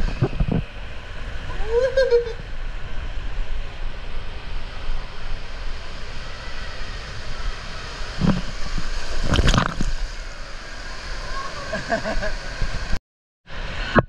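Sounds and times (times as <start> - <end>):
rider sliding down water slide: 0.0 - 13.0.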